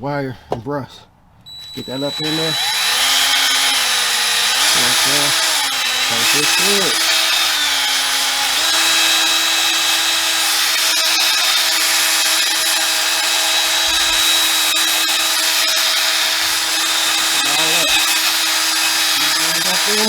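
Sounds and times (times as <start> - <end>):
drill wire brush scrubbing metal: 1.5 - 20.0.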